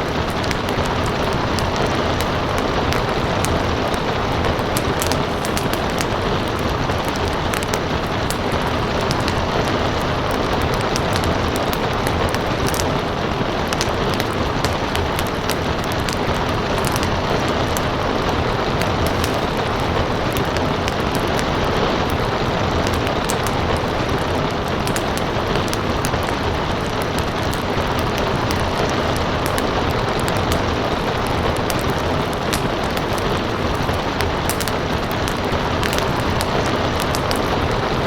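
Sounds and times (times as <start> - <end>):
rain on a surface: 0.0 - 38.0
wood fire crackling: 0.0 - 38.0.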